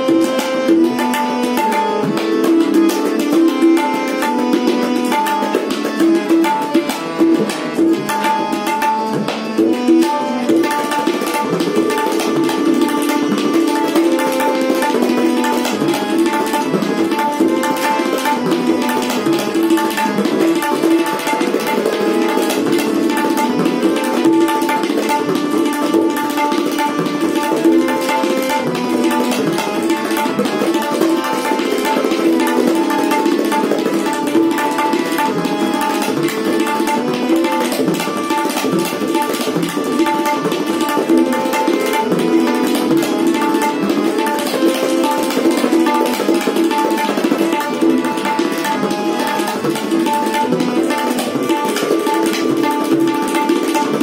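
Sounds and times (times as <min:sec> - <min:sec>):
harmonium melody: 0:00.0 - 0:54.0
tabla drums: 0:00.0 - 0:54.0.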